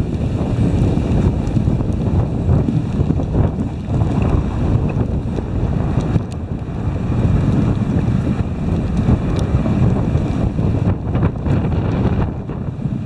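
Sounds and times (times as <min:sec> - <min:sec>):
sled running over snow: 0:00.0 - 0:13.0
wind buffeting microphone: 0:00.0 - 0:13.0.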